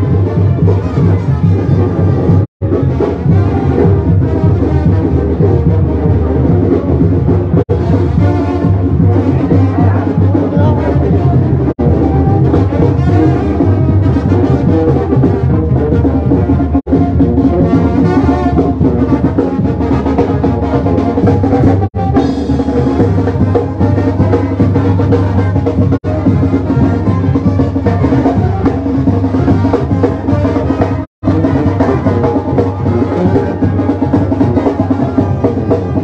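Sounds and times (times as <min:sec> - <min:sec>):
bass drum with cymbal: 0:00.0 - 0:36.0
snare drum: 0:00.0 - 0:36.0
sousaphone: 0:00.0 - 0:36.0
trumpets and trombones: 0:00.0 - 0:36.0.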